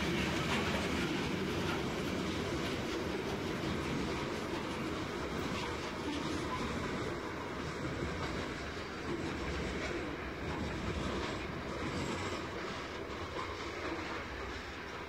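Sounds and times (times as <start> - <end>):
freight train wagons rolling: 0.0 - 15.0.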